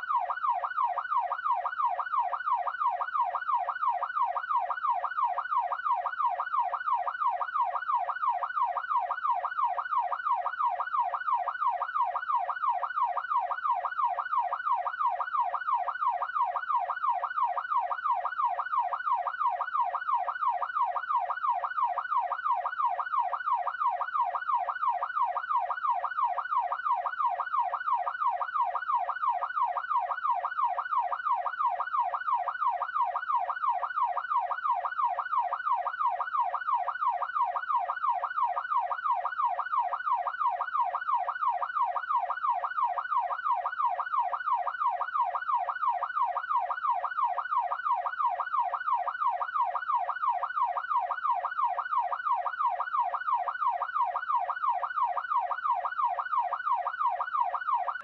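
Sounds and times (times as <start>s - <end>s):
police siren yelping: 0.0s - 58.0s.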